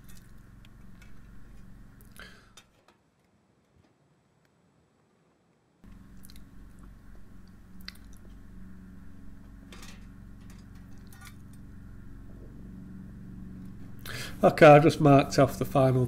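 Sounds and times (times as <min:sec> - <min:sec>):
low machine hum: 0:00.0 - 0:02.8, 0:05.8 - 0:16.0.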